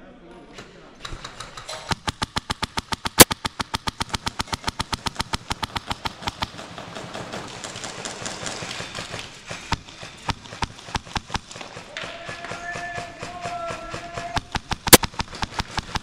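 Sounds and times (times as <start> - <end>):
airsoft guns firing: 1.0 - 16.0.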